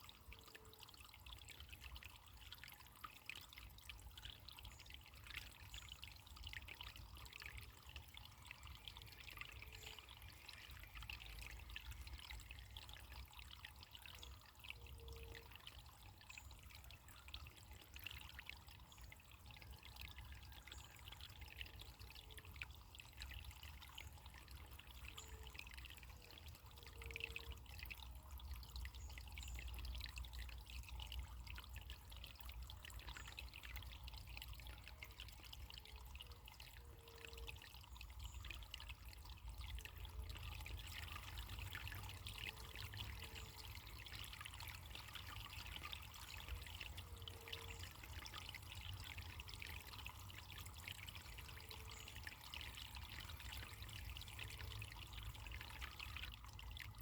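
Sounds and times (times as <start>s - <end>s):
water trickling and gurgling: 0.0s - 57.0s.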